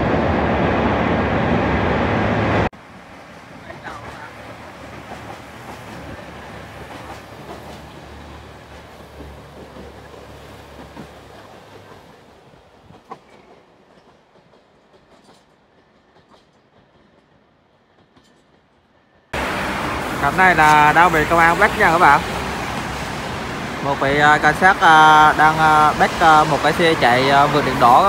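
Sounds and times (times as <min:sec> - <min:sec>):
diesel train rumbling past: 0:00.0 - 0:28.0.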